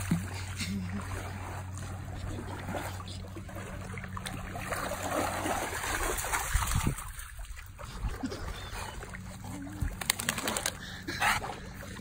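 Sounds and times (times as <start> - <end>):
dog splashing through water: 0.0 - 10.8.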